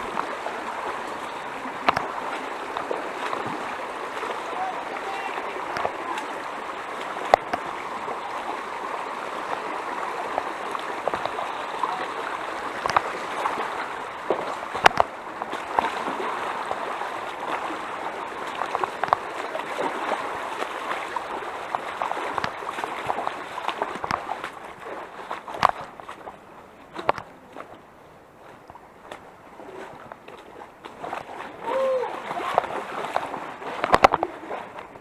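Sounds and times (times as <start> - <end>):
stream running over rocks: 0.0 - 35.0.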